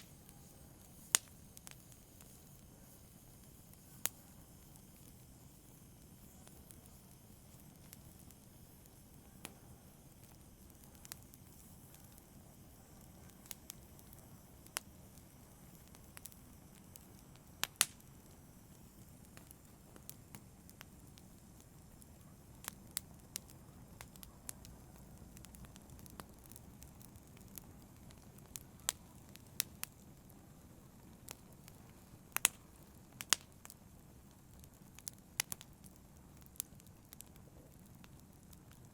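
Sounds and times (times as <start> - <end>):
campfire hissing and rumbling: 0.0 - 38.9
fire crackles and pops: 0.0 - 38.9.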